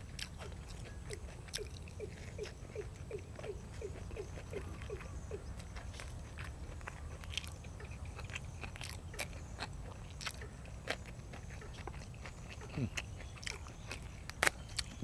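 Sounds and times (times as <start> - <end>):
person crunching raw vegetables: 0.0 - 15.0.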